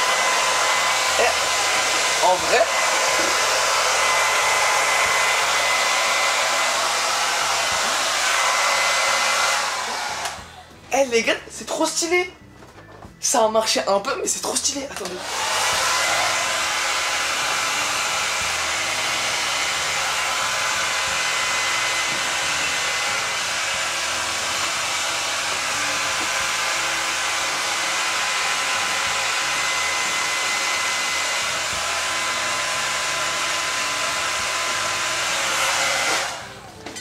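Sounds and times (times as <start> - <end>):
hair dryer blowing: 0.0 - 10.7, 15.0 - 36.8.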